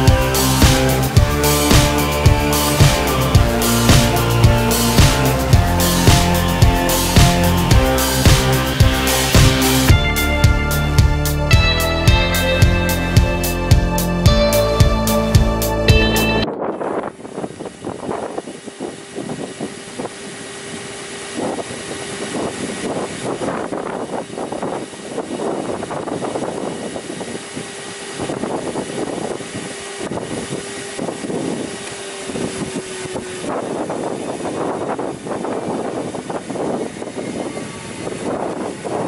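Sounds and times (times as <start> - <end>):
sanding belt running: 0.0 - 16.2, 16.9 - 39.0
motor whirring hum: 0.0 - 39.0.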